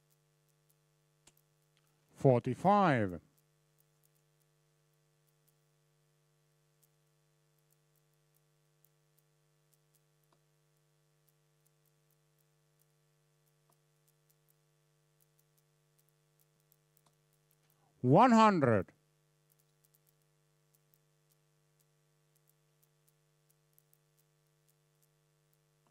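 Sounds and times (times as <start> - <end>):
faint electrical hum: 0.0 - 25.9.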